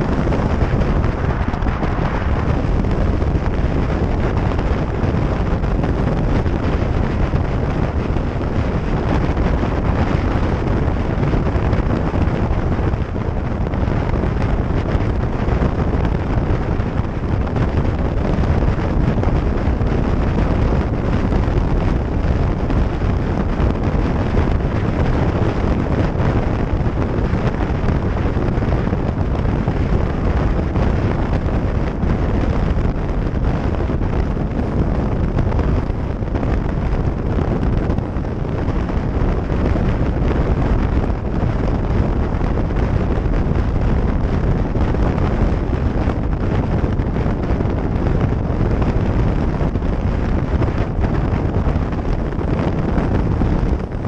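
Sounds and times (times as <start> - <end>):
motorcycle running: 0.0 - 54.0
road noise: 0.0 - 54.0
wind buffeting microphone: 0.0 - 54.0.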